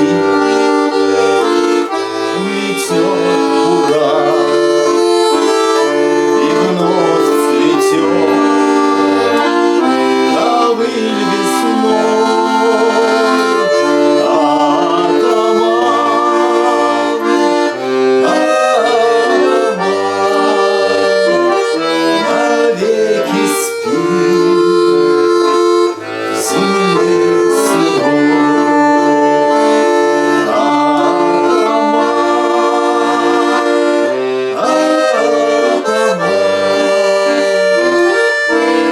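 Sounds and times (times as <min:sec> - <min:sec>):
accordion playing chords and melody: 0:00.0 - 0:38.9.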